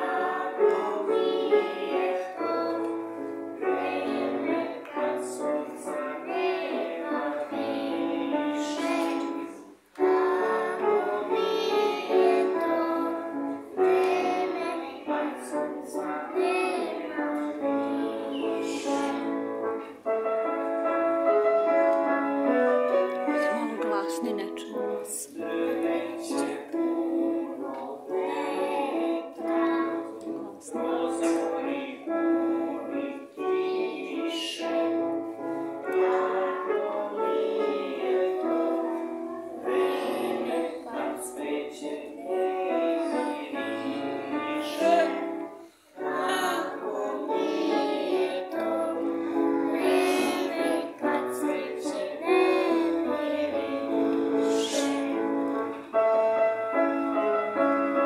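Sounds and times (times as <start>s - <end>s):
children singing: 0.0s - 23.8s, 24.6s - 58.0s
piano accompaniment: 0.0s - 58.0s.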